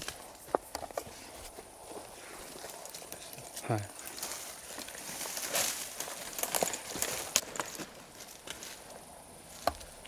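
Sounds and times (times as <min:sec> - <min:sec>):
footsteps in forest undergrowth: 0:00.0 - 0:10.0.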